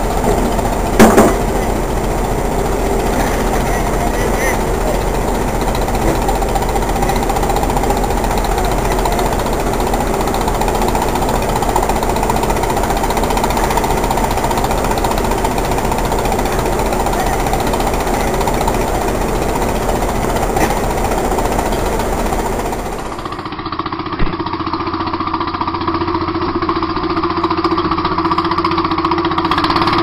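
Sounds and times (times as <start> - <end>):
engine running with rattle: 0.0 - 30.0.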